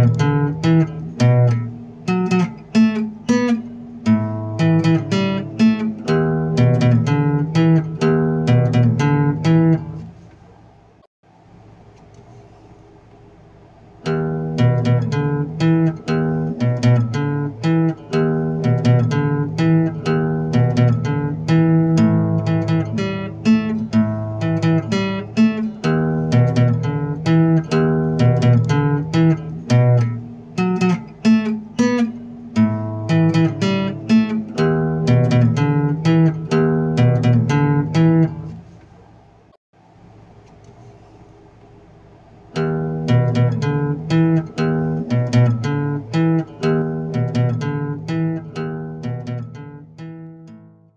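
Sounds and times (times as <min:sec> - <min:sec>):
acoustic guitar chords: 0:00.0 - 0:10.4, 0:14.0 - 0:38.8, 0:42.4 - 0:50.9.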